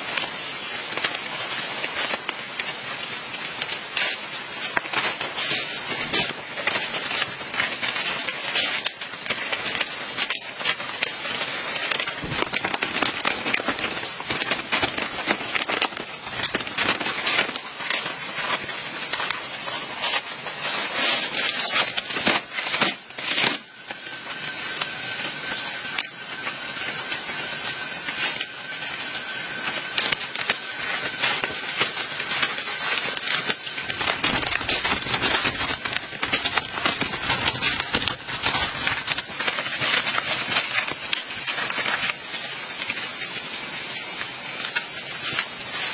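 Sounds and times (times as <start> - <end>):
leaves rustling and crackling: 0.0 - 45.9.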